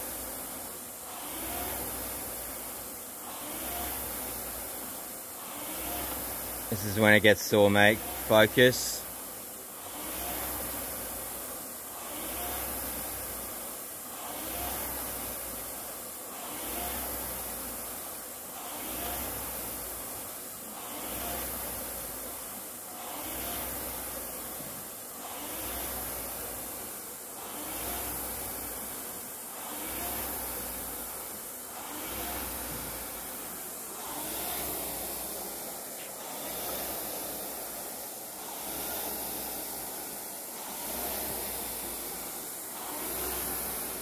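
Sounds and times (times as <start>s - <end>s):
rowing machine flywheel whooshing: 0.0s - 7.0s, 7.9s - 44.0s
low flywheel hum: 0.0s - 44.0s.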